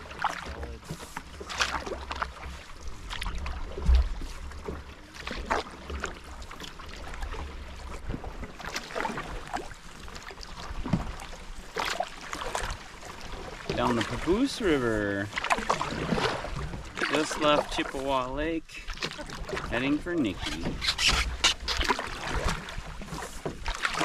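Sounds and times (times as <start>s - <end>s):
paddle splashing in water: 0.0s - 24.0s.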